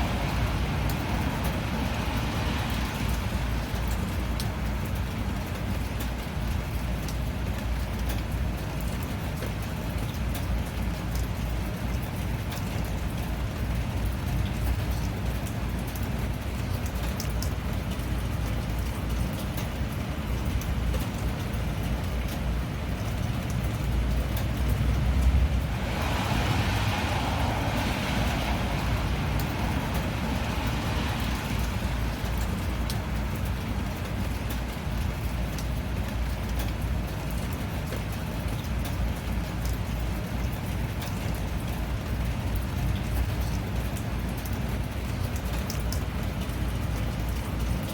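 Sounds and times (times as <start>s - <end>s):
steady rain hiss: 0.0s - 47.9s
raindrop ticks: 0.1s - 47.9s.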